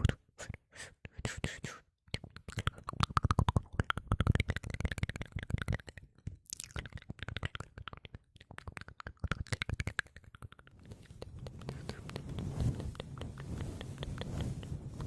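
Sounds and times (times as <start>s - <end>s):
wet lip and tongue clicks: 2.1s - 14.3s.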